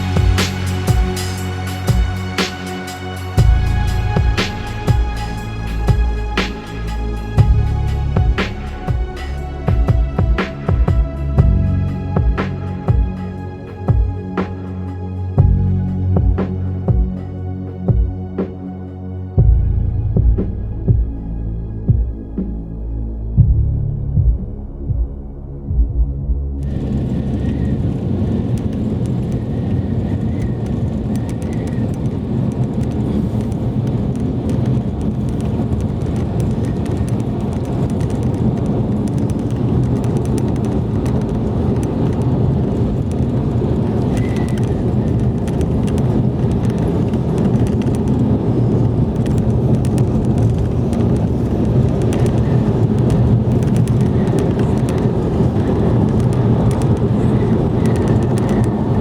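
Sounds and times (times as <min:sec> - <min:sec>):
car driving rumble: 0:00.0 - 0:18.6, 0:19.4 - 0:59.0.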